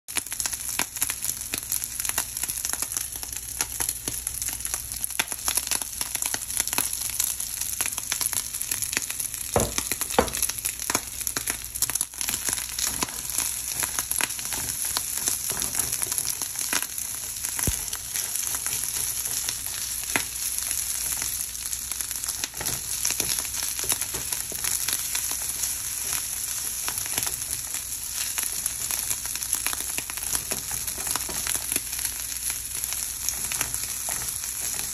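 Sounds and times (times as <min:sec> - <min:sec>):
rice sizzling in a frying pan: 0:00.1 - 0:34.9.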